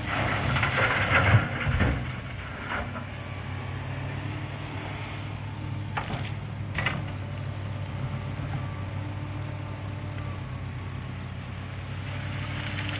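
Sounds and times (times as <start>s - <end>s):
diesel engine droning: 0.0s - 12.9s.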